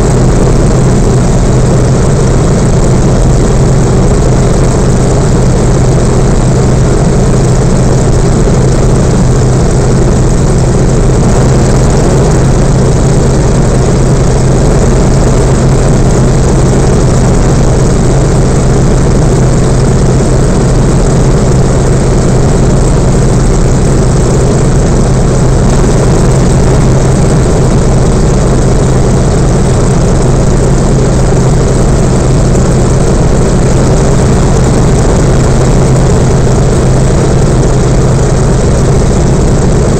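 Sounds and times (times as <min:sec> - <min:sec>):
radial aircraft engine and propeller: 0:00.0 - 0:39.9.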